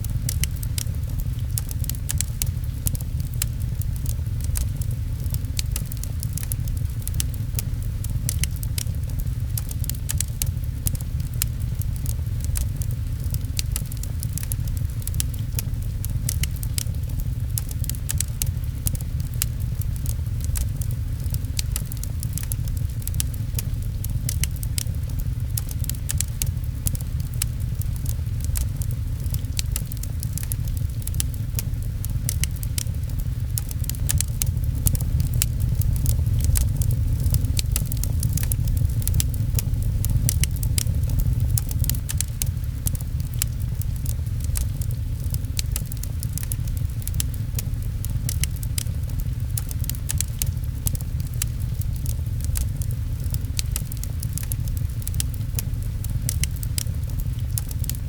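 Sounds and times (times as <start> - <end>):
low rumble: 0.0 - 58.0
rain on a window: 0.0 - 58.0
wood fire crackling and popping: 0.0 - 58.0.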